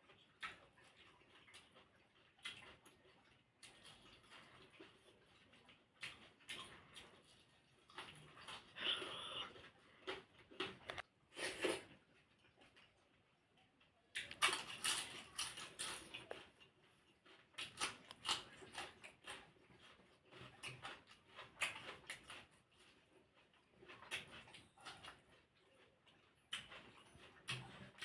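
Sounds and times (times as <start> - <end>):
person chewing: 0.0 - 28.0.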